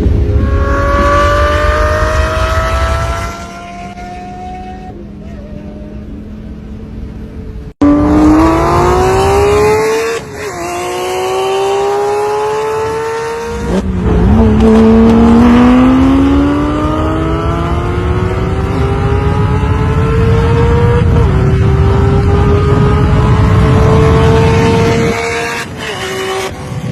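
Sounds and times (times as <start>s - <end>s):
sports car engine accelerating: 0.0s - 6.1s, 7.2s - 26.9s.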